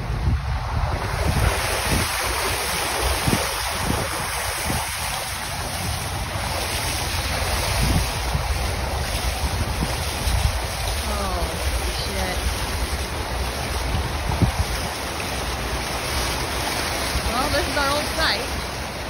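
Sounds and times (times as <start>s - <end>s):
steady low rumble: 0.0s - 19.0s
wind buffeting a microphone: 0.0s - 19.0s.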